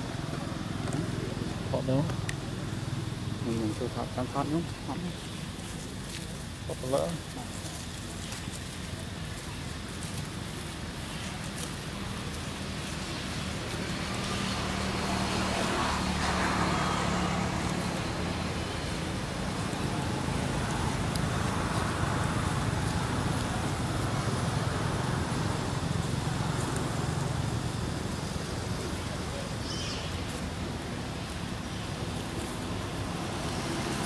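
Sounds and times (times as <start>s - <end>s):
road noise: 0.0s - 34.0s
vehicle engine hum: 0.0s - 34.0s.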